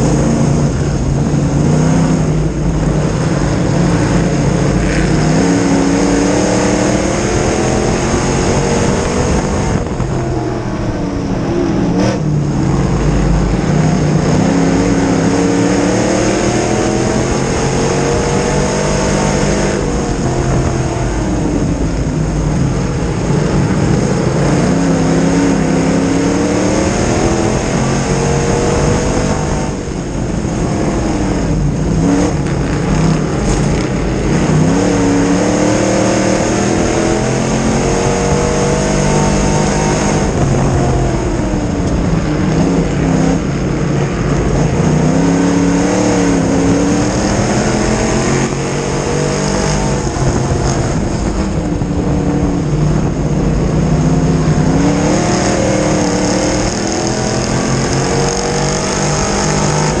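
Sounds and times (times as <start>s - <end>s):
race car engine revving: 0.0s - 60.0s
wind and track noise: 0.0s - 60.0s.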